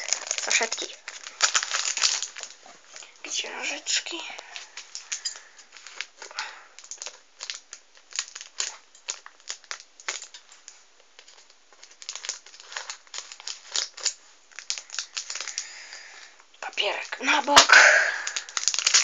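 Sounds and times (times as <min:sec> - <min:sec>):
packaging wrapper crinkling: 0:00.0 - 0:19.0.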